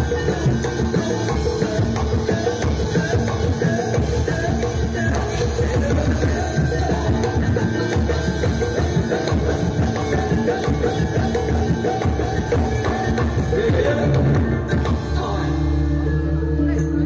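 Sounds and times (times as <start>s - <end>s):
jingling percussion: 0.0s - 15.4s
drums: 0.0s - 17.0s.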